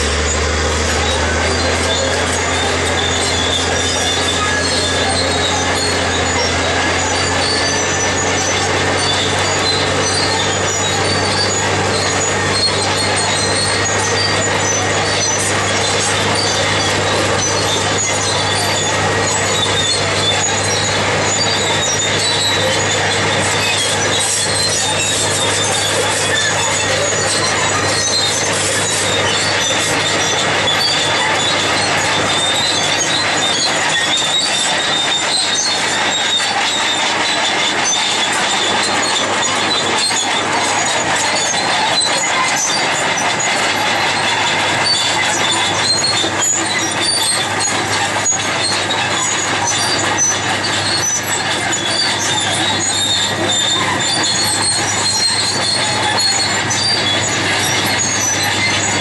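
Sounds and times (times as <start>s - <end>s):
bulldozer diesel engine: 0.0s - 59.0s
high squeal from running gear: 0.0s - 59.0s
steel tracks clanking: 0.0s - 59.0s.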